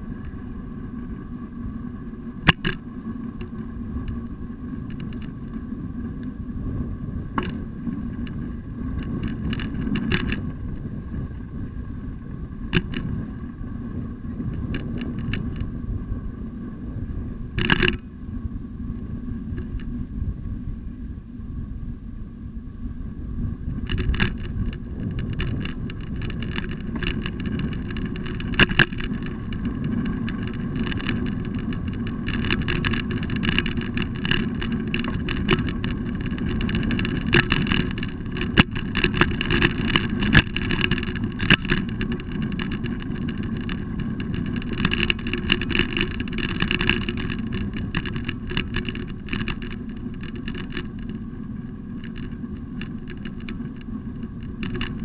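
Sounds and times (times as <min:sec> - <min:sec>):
bicycle rattling over bumps: 0:00.0 - 0:55.0
bicycle tyres rumbling on bricks: 0:00.0 - 0:55.0.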